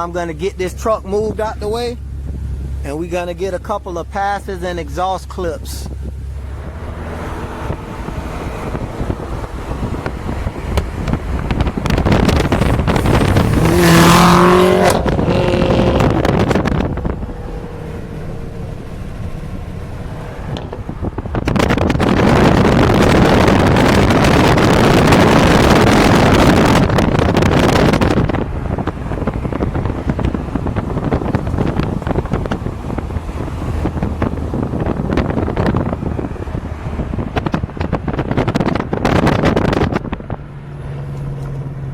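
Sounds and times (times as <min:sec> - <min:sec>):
loud car exhaust passes: 0:05.8 - 0:41.9.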